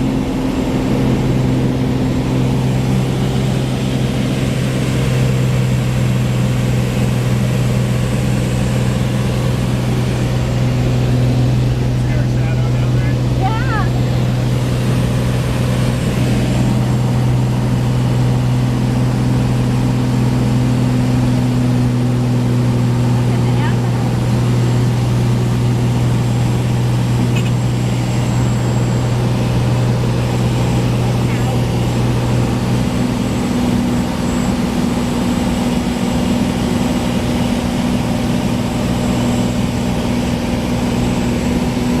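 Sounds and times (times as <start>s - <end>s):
propeller plane engine droning: 0.0s - 42.0s.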